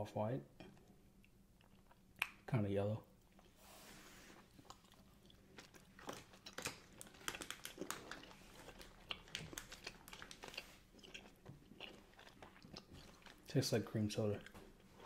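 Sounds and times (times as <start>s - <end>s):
chewing gummy candy: 0.6s - 2.4s, 4.4s - 15.0s.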